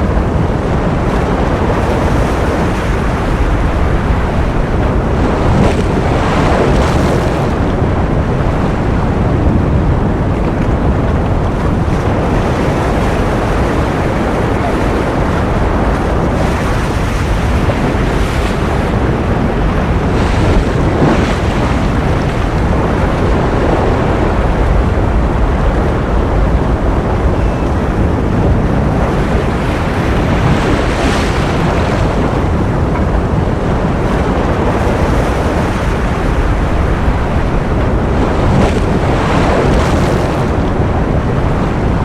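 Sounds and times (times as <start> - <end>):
ocean surf: 0.0 - 42.0.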